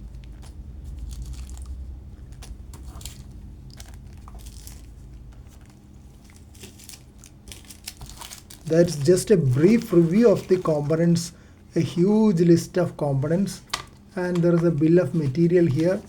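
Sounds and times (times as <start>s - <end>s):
low steady hum: 0.0s - 16.0s
plastic packets crinkling: 0.0s - 16.0s.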